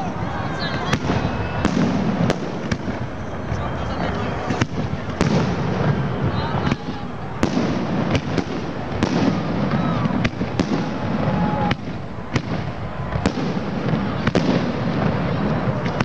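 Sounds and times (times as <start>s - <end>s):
distant fireworks rumble: 0.0s - 16.0s
firework bangs: 0.0s - 16.0s.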